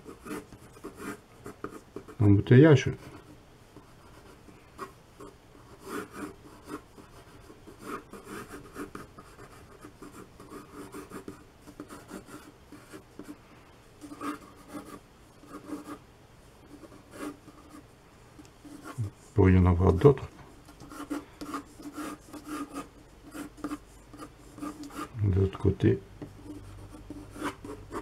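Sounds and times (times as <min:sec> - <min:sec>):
pencil scratching on paper: 0:00.0 - 0:02.2, 0:02.9 - 0:13.4, 0:14.0 - 0:16.0, 0:16.6 - 0:17.8, 0:18.6 - 0:28.0.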